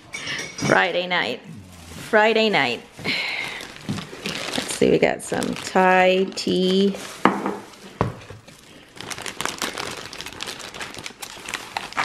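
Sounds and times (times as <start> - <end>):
plastic bags crinkling: 1.4 - 12.0.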